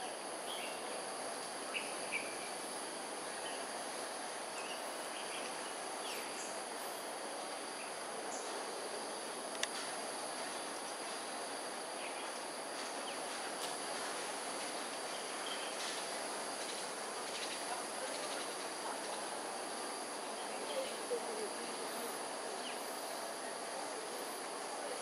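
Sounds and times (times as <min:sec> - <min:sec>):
insects calling: 0:00.0 - 0:25.0.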